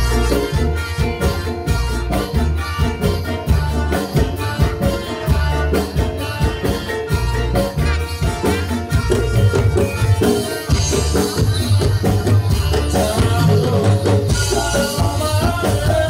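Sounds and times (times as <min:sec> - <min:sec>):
hand drums in quick rhythm: 0:00.0 - 0:16.0
pitched instruments playing: 0:00.0 - 0:16.0.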